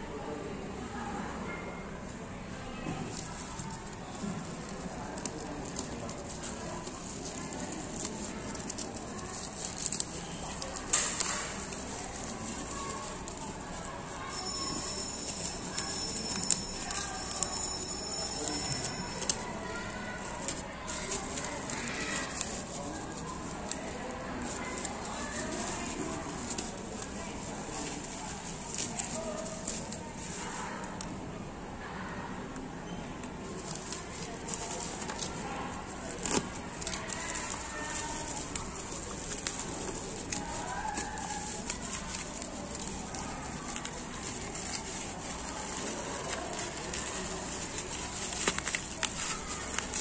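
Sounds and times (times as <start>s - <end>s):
steady background noise: 0.0s - 50.0s
bubble wrap crinkling and crackling: 2.8s - 31.3s, 32.6s - 50.0s.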